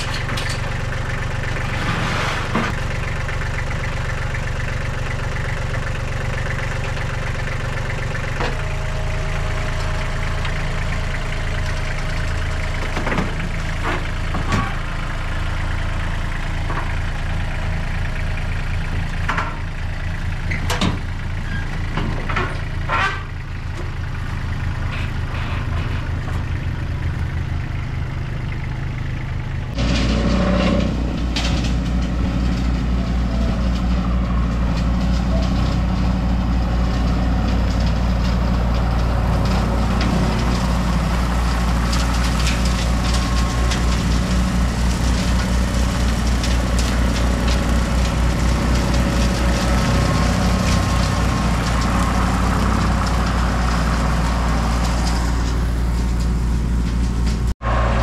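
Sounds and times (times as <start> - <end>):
rotary cutter mowing: 0.0 - 19.6, 21.4 - 58.0
tractor engine running: 0.0 - 58.0.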